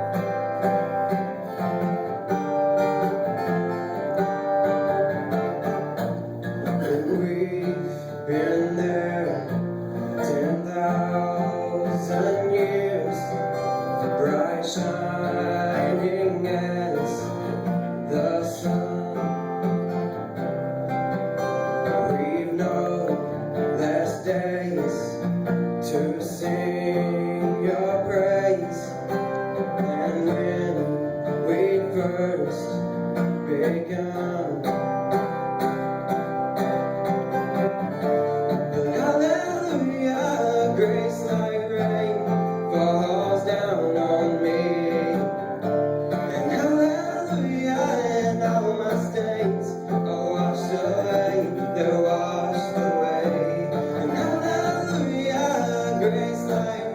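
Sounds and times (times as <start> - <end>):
man singing: 0.0 - 20.4, 21.4 - 35.6, 38.3 - 56.9
acoustic guitar: 0.0 - 56.9.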